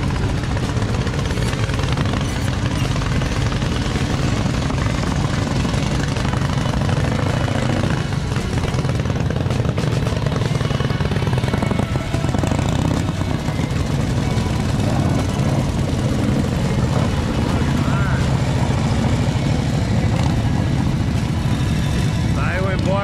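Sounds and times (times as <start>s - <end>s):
motorcycle engines passing: 0.0s - 23.0s.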